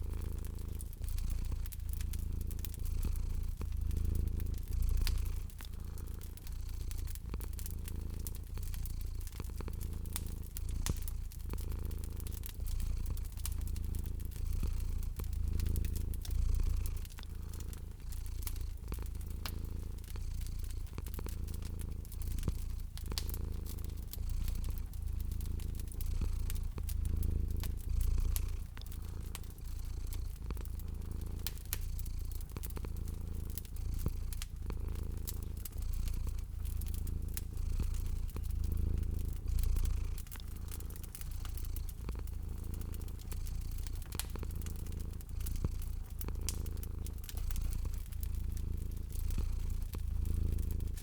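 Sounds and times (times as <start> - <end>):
cat purring: 0.0 - 51.0
fireplace fire crackling: 0.0 - 51.0.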